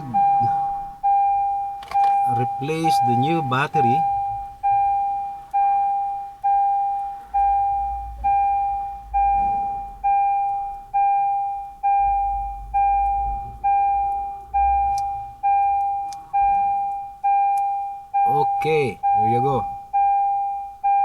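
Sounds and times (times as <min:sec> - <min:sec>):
electronic chime beeping: 0:00.0 - 0:21.0.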